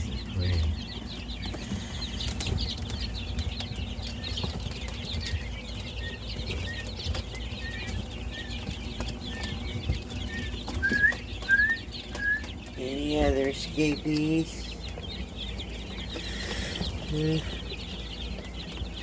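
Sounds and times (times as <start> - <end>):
clear evenly spaced bird calls: 0.0 - 19.0
keets peeping: 0.0 - 19.0.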